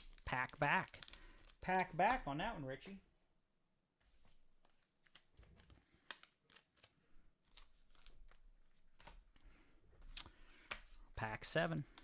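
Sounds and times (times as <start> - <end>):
trading cards crinkling: 0.0 - 3.0, 4.1 - 12.0.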